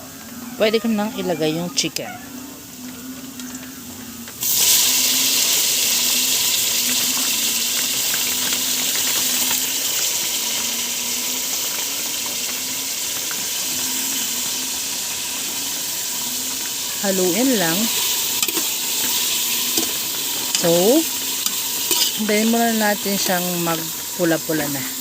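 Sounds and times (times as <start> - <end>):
chicken sizzling in hot oil: 2.0 - 25.0
oil spattering crackles: 2.6 - 25.0.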